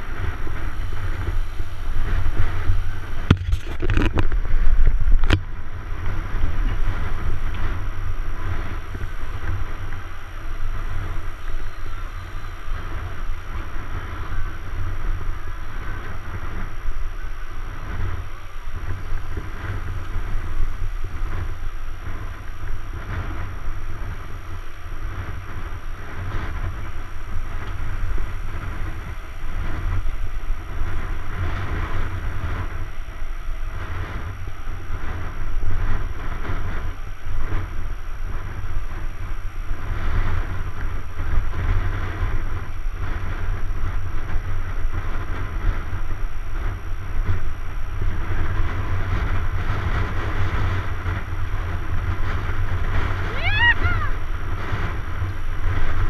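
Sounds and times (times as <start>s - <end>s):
rattling hiss of bike tyres: 0.0s - 53.4s
wind rumble on microphone: 0.0s - 56.0s.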